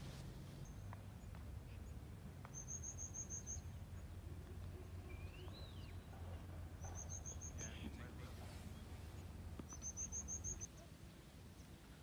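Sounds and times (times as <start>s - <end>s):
faint low outdoor hum: 0.0s - 12.0s
small birds calling: 0.6s - 11.8s.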